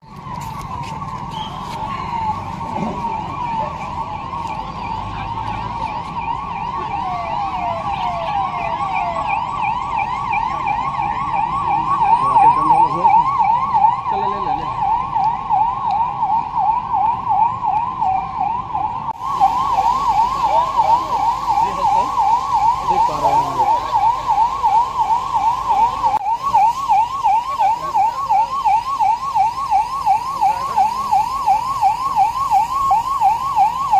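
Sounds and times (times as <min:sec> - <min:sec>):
electronic siren yelping: 0:00.0 - 0:33.9.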